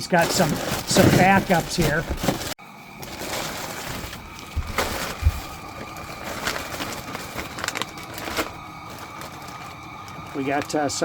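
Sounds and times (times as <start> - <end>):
knocks and rustles of handling: 0.0 - 9.8.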